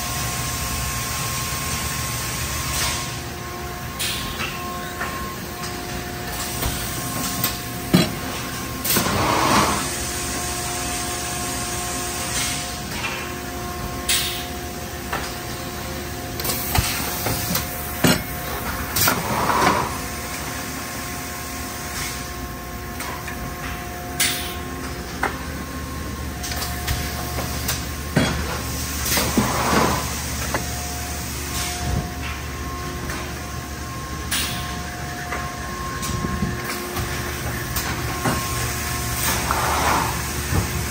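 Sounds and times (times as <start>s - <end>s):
machine hum and whine: 0.0s - 40.9s.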